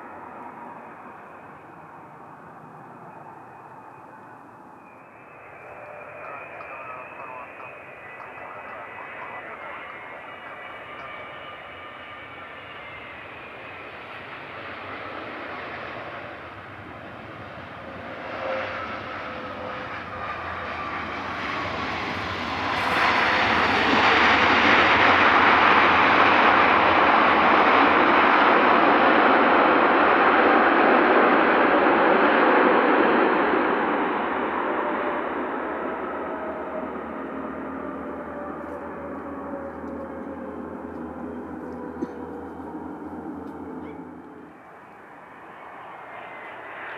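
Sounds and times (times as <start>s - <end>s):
jet engines roaring past: 0.0s - 46.9s.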